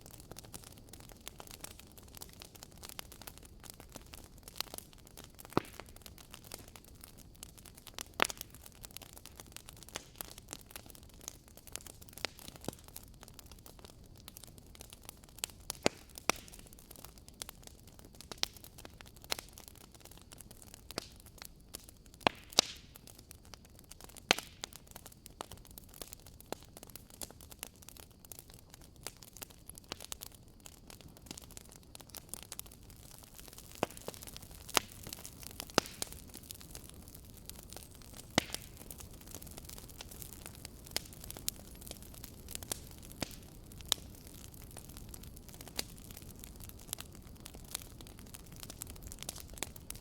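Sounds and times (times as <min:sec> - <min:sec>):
campfire crackling and popping: 0:00.0 - 0:50.0
faint steady hiss: 0:00.0 - 0:50.0.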